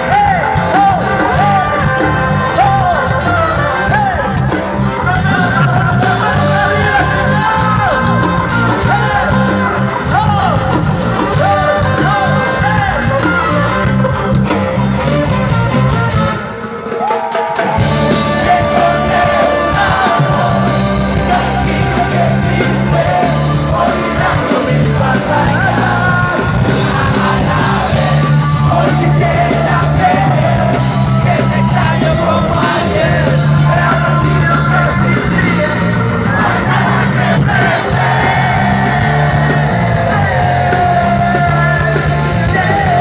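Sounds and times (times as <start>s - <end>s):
person singing: 0.0s - 14.4s, 16.4s - 43.0s
ska band playing live: 0.0s - 43.0s.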